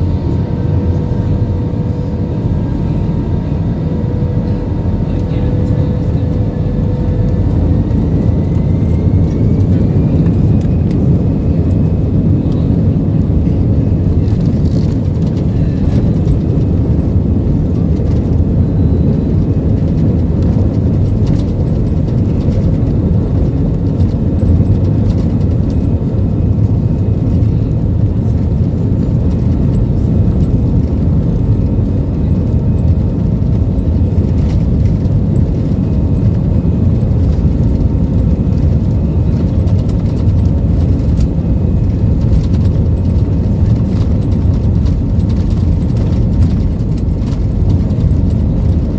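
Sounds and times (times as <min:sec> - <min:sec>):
jet engines rumbling in cabin: 0:00.0 - 0:48.9.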